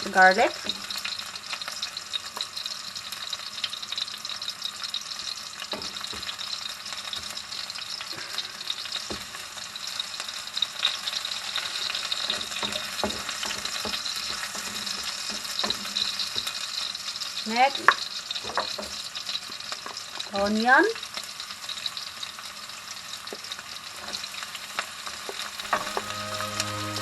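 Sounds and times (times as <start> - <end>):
garlic sizzling in oil: 0.0 - 27.0.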